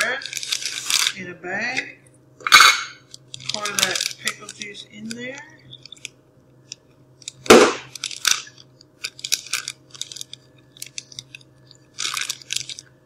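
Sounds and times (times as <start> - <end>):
plastic bag crinkling: 0.0 - 1.4, 3.0 - 13.0.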